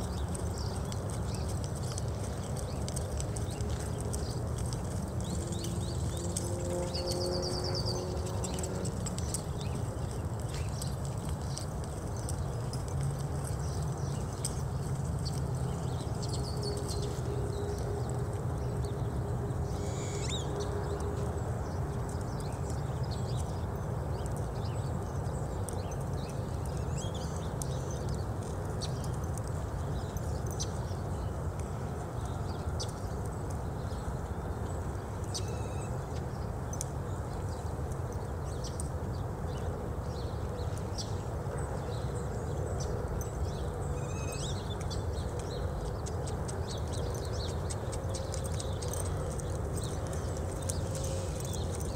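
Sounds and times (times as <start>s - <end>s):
horse hooves on soft dirt: 0.0s - 51.9s.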